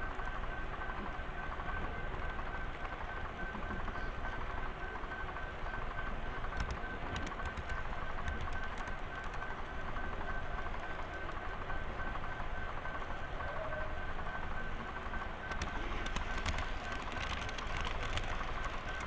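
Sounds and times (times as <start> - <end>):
model train rumbling hum: 0.0 - 19.0
thin steady whine: 0.0 - 19.0.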